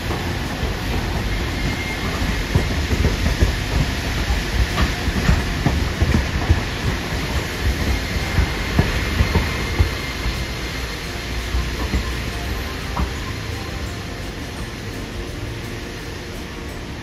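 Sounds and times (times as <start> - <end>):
tram running gear rumbling: 0.0 - 17.0.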